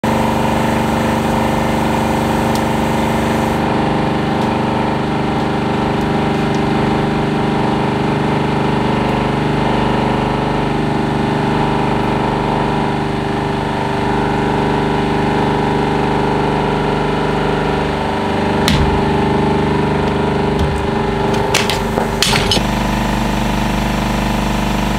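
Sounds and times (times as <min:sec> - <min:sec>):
hydraulic press pump hum: 0:00.0 - 0:13.0, 0:15.6 - 0:24.9.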